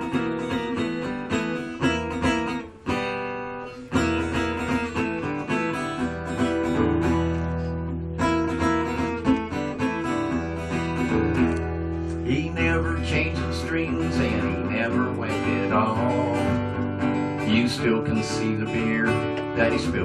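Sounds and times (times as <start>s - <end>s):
acoustic guitar picking: 0.0s - 20.0s.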